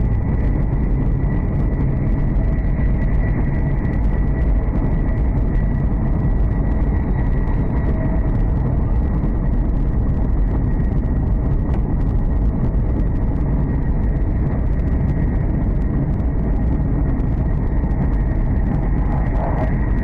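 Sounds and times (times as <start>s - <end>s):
high-pitched whine: 0.0s - 20.0s
train wheels rumbling on rail: 0.0s - 20.0s.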